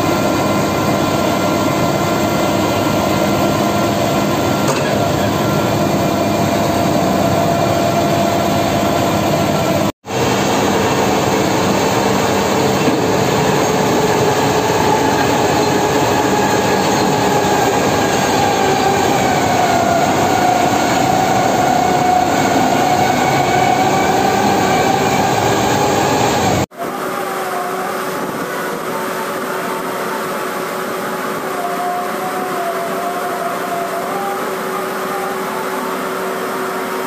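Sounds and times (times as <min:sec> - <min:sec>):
excavator working: 0:00.0 - 0:37.0
heavy hydraulic machinery droning: 0:00.0 - 0:37.0.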